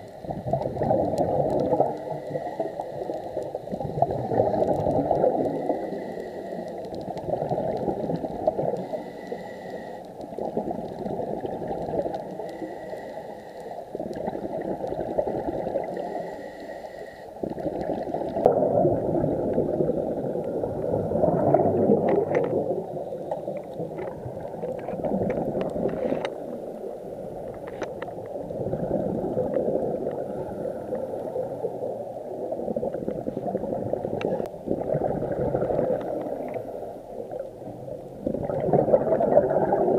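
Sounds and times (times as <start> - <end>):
underwater breathing bubbles: 0.0 - 39.9.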